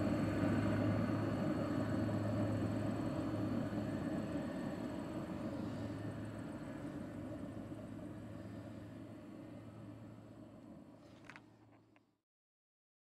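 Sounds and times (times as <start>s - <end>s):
gas burner rumbling: 0.0s - 11.4s.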